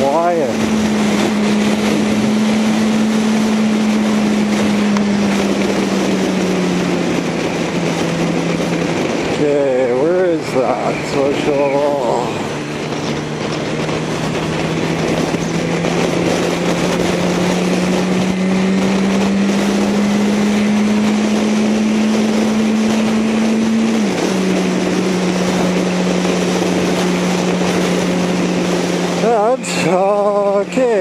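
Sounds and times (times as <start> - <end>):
motorcycle engine running: 0.0 - 31.0
wind and road noise hiss: 0.0 - 31.0.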